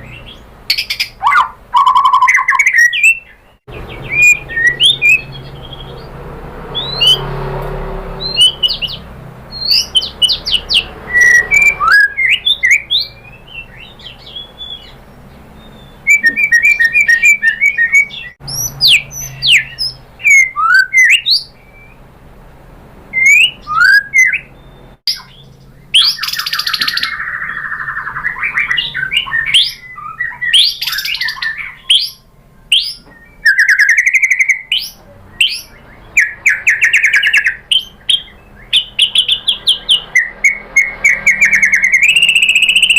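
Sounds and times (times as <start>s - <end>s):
bird singing varied song: 0.0s - 22.2s, 23.1s - 42.9s.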